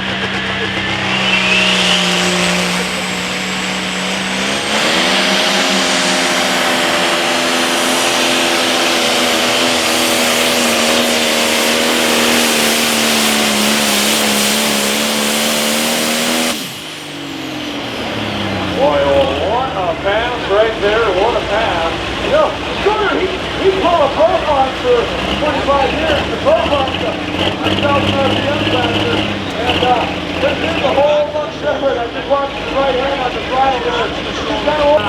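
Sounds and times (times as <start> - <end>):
diesel tractor engine at full throttle: 0.0 - 35.0.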